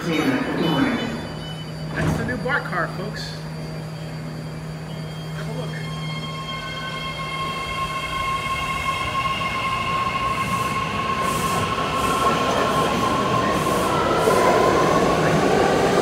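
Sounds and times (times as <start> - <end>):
train motors whining: 0.0 - 16.0.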